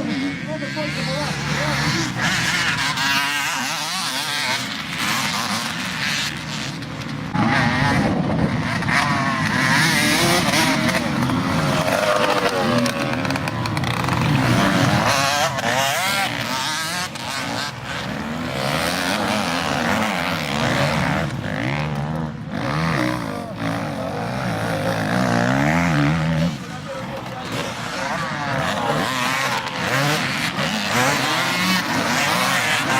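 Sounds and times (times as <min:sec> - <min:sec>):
motocross motorcycles revving: 0:00.0 - 0:32.9.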